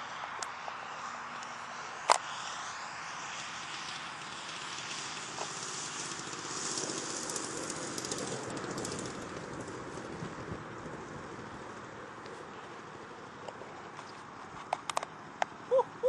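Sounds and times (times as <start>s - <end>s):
plane scraping across grass: 1.0s - 14.7s.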